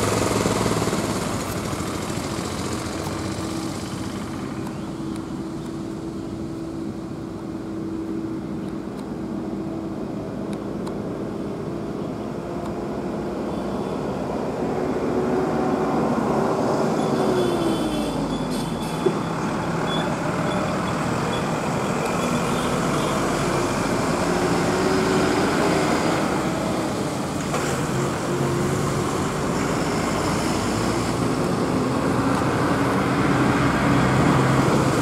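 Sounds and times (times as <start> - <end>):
diesel truck engines passing: 0.0 - 35.0
road traffic rumble: 0.0 - 35.0.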